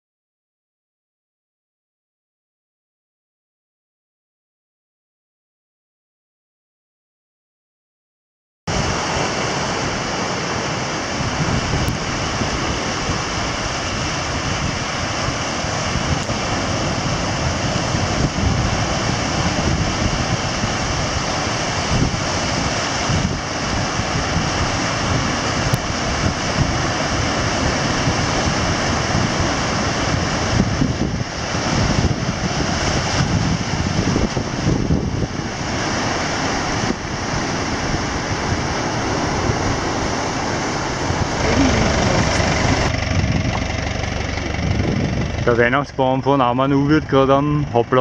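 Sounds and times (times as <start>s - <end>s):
ocean surf breaking: 8.7s - 48.0s
wind buffeting microphone: 8.7s - 48.0s.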